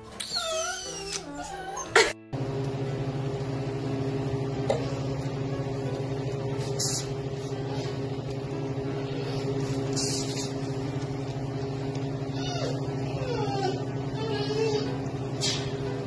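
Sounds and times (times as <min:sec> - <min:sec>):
motor humming: 0:02.4 - 0:16.0.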